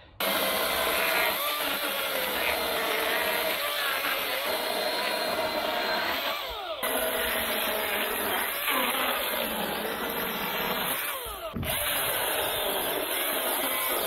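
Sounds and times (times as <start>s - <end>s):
battery chainsaw cutting logs: 0.0s - 14.0s.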